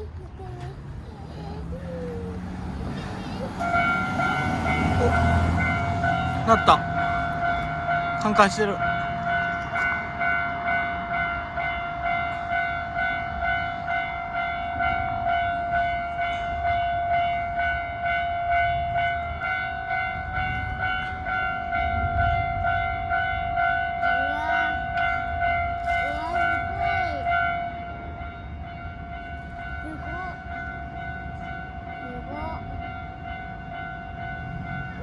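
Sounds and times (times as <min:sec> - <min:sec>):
level crossing warning bell: 0:00.0 - 0:35.0
low train rumble: 0:00.0 - 0:35.0.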